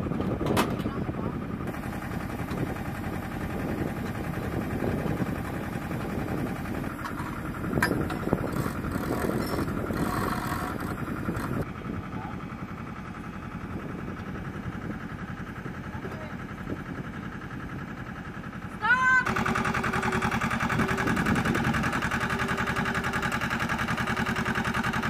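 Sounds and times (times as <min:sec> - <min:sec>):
machinery rumble: 0:00.0 - 0:25.0.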